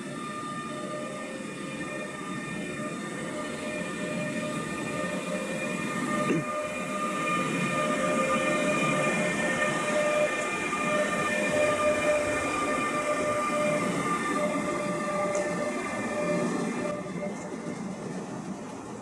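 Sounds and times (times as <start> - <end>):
electric locomotive whine: 0.0 - 19.0
train rolling rumble: 0.0 - 19.0.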